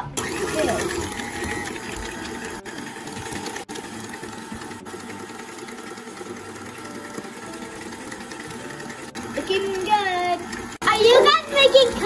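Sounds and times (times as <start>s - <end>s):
stand mixer motor whirring: 0.0s - 12.0s.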